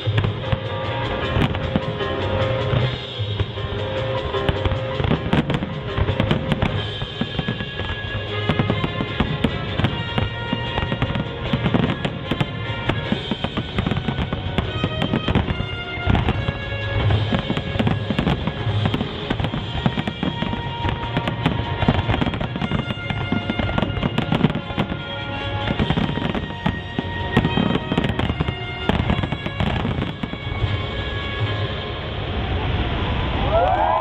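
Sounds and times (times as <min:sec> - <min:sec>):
music playing: 0:00.0 - 0:32.9
fireworks bangs and crackles: 0:00.0 - 0:34.0.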